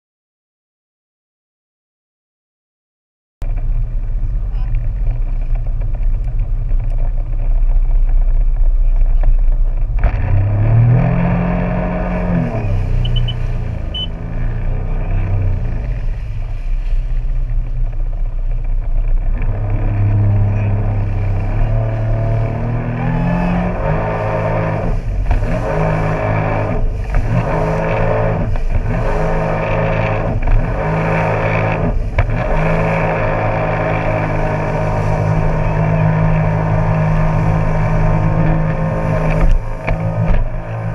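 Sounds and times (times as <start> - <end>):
jet ski engine revving: 3.4 - 40.9.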